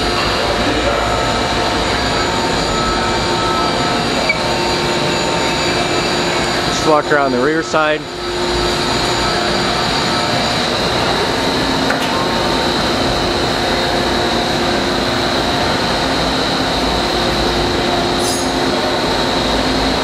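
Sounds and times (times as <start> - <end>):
high whine: 0.0 - 20.0
machinery humming and whirring: 0.0 - 20.0.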